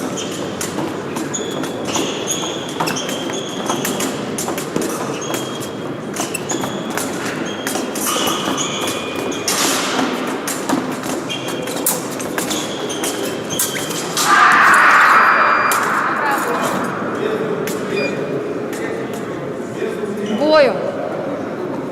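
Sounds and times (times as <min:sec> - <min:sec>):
shoe squeaks: 0:00.0 - 0:18.5.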